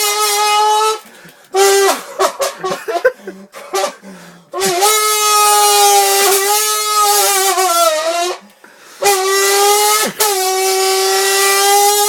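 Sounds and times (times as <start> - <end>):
man imitating car engine with mouth: 0.0 - 12.0.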